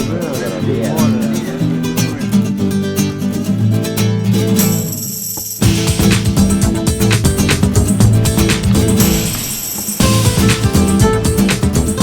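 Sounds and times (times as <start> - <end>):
lively acoustic guitar music: 0.0 - 12.0.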